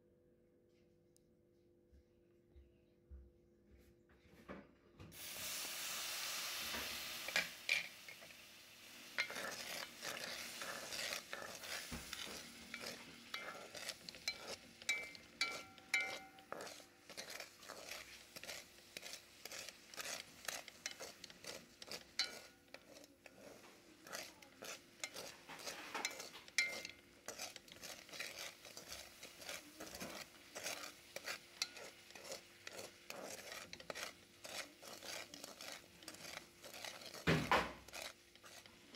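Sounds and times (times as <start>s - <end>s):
liquid hissing in hot pan: 5.2s - 38.9s
wooden spatula scraping a pan: 6.3s - 38.9s.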